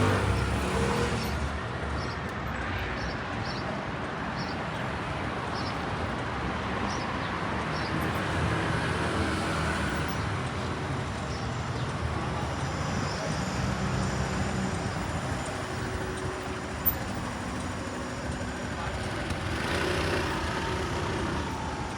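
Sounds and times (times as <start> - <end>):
passing vehicle engines: 0.0 - 21.9.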